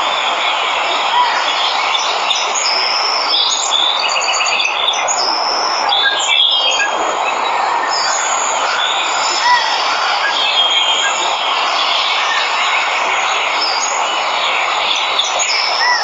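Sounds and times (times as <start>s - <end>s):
birds chirping and trilling: 0.2s - 16.0s.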